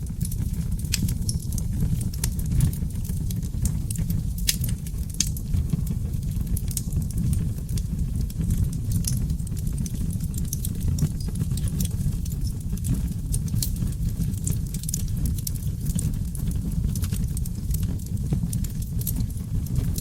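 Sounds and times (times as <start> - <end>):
logs burning with crackles: 0.0 - 20.0.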